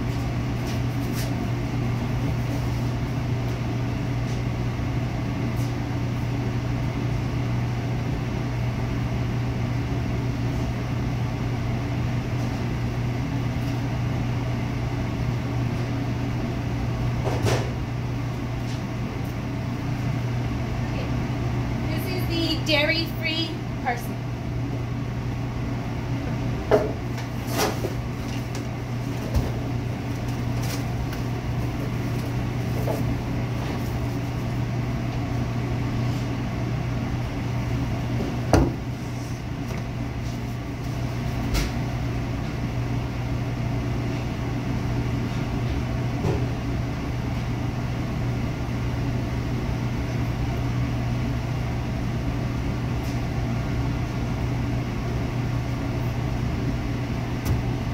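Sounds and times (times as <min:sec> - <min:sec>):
kitchen machine hum: 0:00.0 - 0:57.9.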